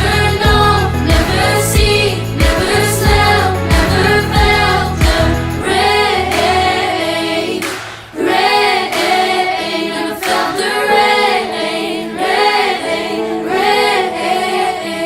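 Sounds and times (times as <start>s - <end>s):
young voices singing together: 0.0s - 15.0s.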